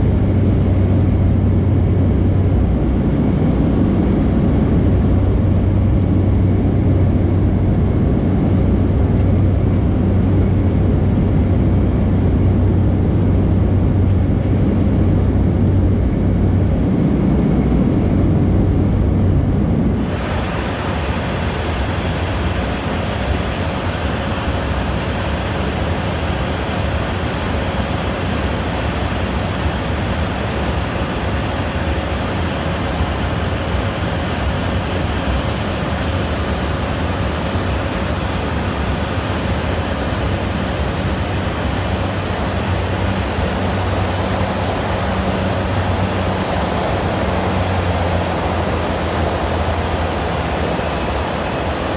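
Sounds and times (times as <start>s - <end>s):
turboprop engine drone in cabin: 0.0s - 51.9s.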